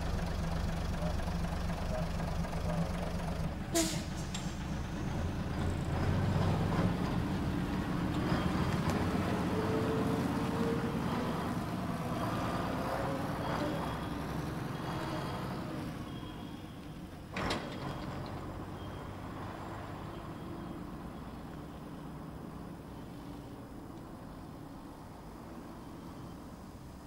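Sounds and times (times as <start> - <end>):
lorry engine pulling away: 0.0 - 27.0.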